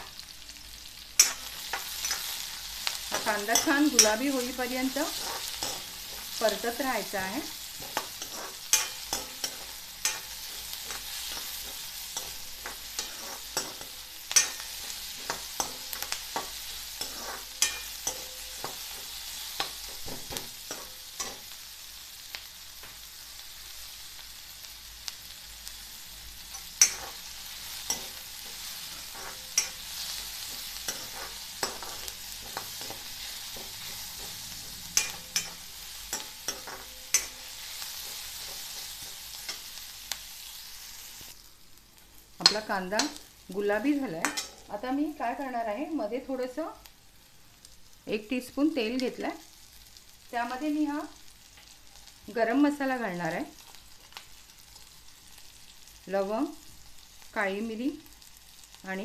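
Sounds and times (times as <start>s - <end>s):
onions sizzling in hot oil: 0.0s - 59.0s.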